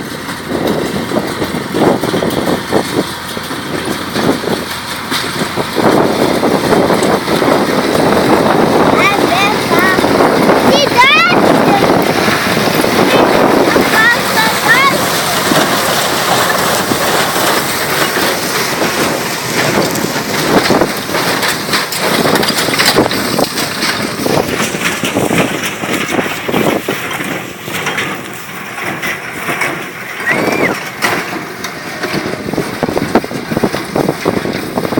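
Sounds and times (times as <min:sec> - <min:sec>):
baler working: 0:00.0 - 0:34.9
tractor engine running: 0:00.0 - 0:34.9
wind buffeting microphone: 0:00.0 - 0:34.9
knocks and rustles: 0:00.1 - 0:30.0.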